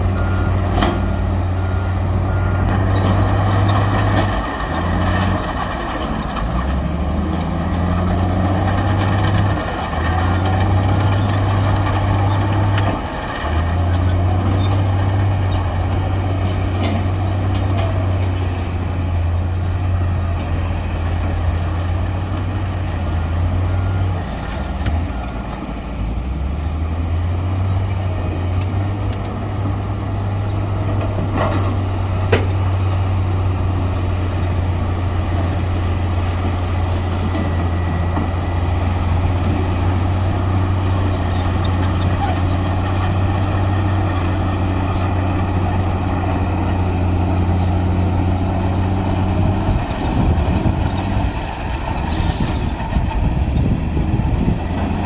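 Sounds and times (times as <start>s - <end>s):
heavy diesel engine under load: 0.0s - 55.0s.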